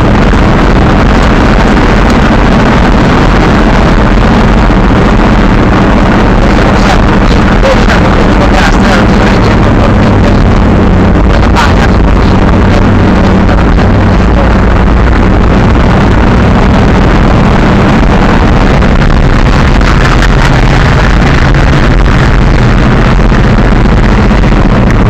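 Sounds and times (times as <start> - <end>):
monster truck engine running: 0.0 - 25.0.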